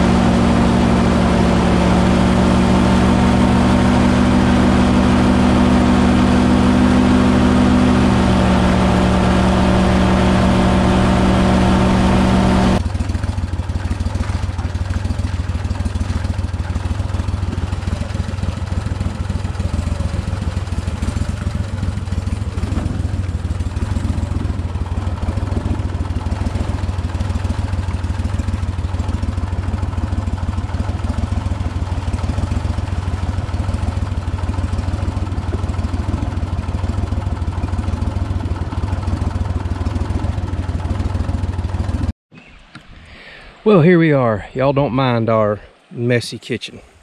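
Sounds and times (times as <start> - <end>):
boat motor droning: 0.0 - 42.0.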